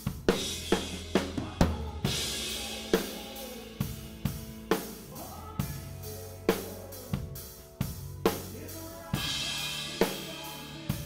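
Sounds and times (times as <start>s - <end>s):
live band playing slow ballad: 0.0s - 11.0s.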